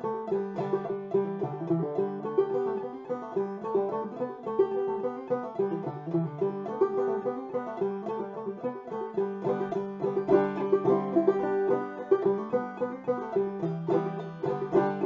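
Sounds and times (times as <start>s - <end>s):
clawhammer banjo tune: 0.0s - 15.0s.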